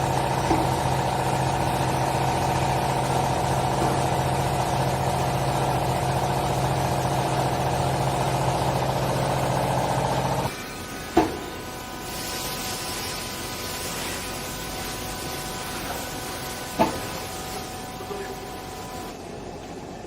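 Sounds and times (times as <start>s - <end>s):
hydraulic motor and pump hum: 0.0s - 20.0s.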